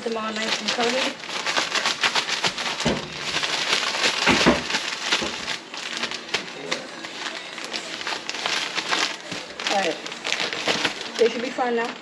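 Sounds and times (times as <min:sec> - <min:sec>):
fish pieces rustling in breading: 0:00.0 - 0:12.0.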